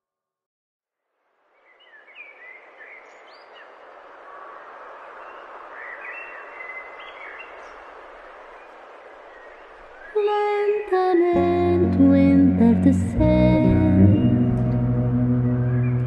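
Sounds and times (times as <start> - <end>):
noisy outdoor background: 1.0 - 16.0.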